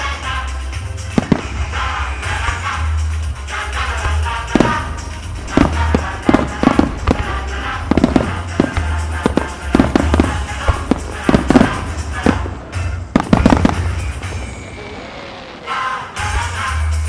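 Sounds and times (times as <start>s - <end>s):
music playing: 0.0s - 17.0s
firework shells bursting: 1.0s - 16.1s.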